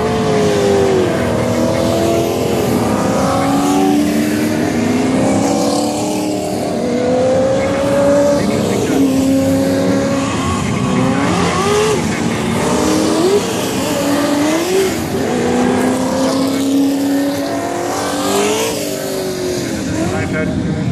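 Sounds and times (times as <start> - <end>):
engine throttle blips: 0.0 - 18.8
car engines rumbling: 0.0 - 20.9.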